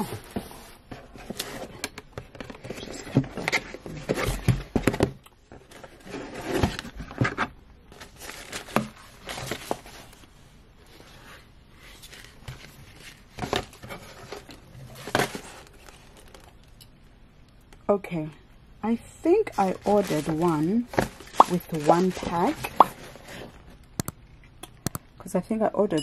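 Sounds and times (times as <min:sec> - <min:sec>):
plastic rustling: 0:00.0 - 0:16.8, 0:19.4 - 0:23.9.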